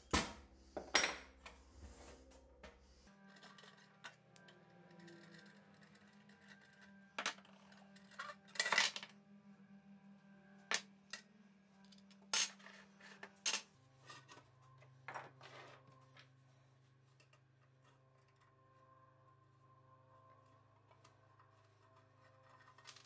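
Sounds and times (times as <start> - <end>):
quiet background music: 0.0 - 23.0.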